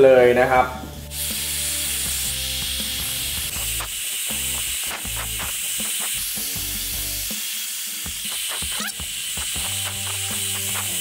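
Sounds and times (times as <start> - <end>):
background music: 0.0 - 7.4, 8.0 - 11.0
hair dryer blowing: 1.2 - 11.0.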